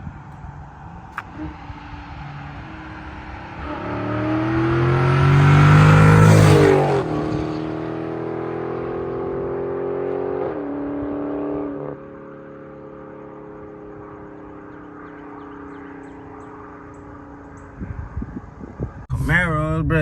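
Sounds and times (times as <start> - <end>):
car engine accelerating past: 0.1 - 19.0.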